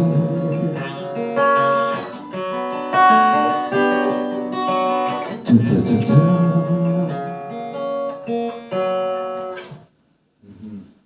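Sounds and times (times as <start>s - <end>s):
acoustic guitar notes and chords: 0.0s - 10.0s.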